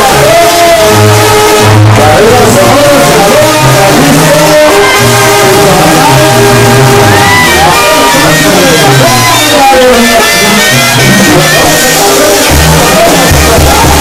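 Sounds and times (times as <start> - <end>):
brass band playing: 0.0 - 14.0
man singing into a microphone: 0.0 - 14.0
tuba bass line: 0.0 - 14.0.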